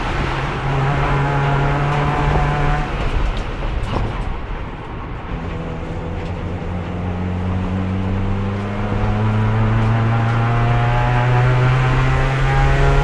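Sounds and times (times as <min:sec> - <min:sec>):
race car engine revving: 0:00.0 - 0:04.0, 0:05.3 - 0:13.0
road and tyre noise: 0:00.0 - 0:13.0.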